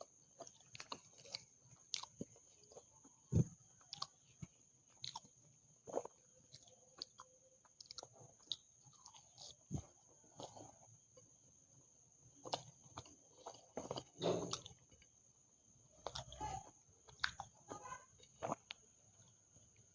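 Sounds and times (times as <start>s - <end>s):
chewing food: 0.0s - 19.9s.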